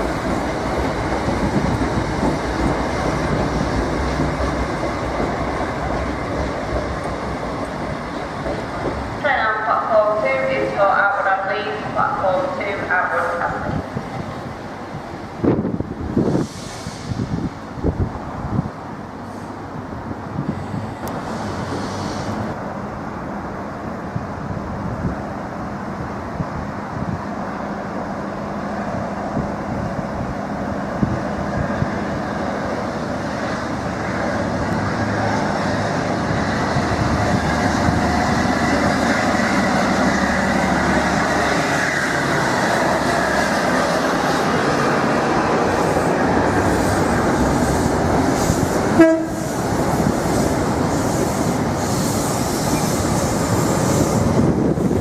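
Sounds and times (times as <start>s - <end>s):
train running on rails: 0.0s - 55.0s.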